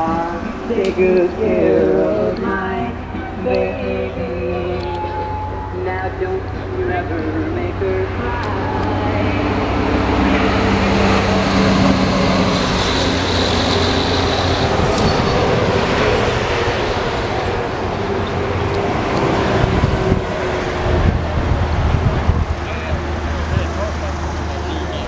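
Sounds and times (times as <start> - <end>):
heavy truck driving past: 0.0 - 25.0.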